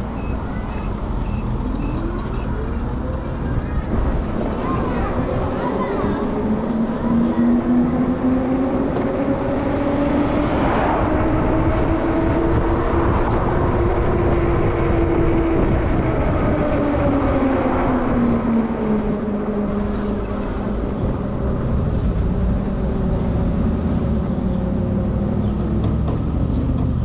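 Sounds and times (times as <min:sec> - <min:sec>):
road and wind noise: 0:00.0 - 0:27.0.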